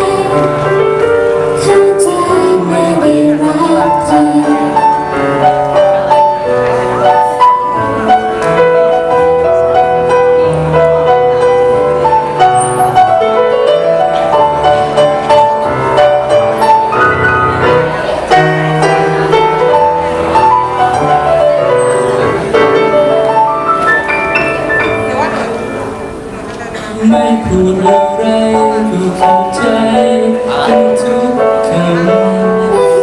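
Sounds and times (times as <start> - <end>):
piano melody: 0.0 - 33.0.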